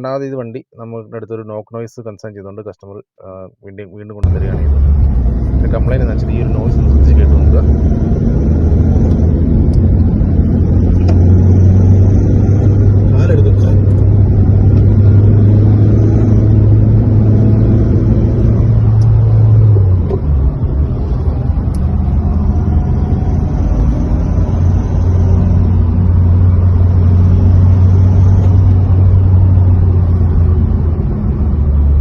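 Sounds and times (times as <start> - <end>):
diesel engine droning: 4.2 - 32.0.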